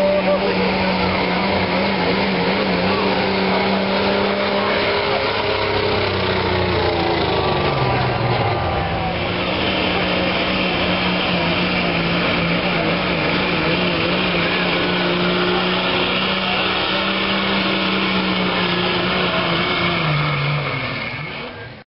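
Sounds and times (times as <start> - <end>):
truck engine at full throttle: 0.0 - 21.8.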